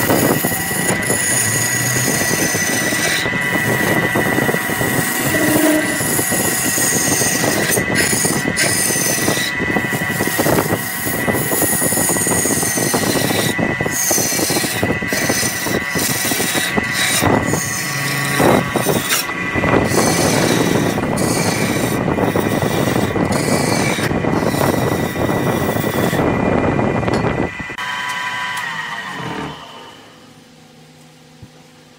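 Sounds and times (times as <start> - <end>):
gouge scraping wood on lathe: 0.0 - 26.3
constant high whine: 0.0 - 31.9.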